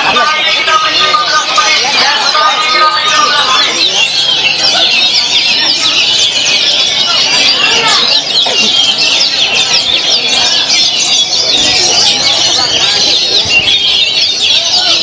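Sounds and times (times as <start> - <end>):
caged songbirds singing: 0.0 - 15.0.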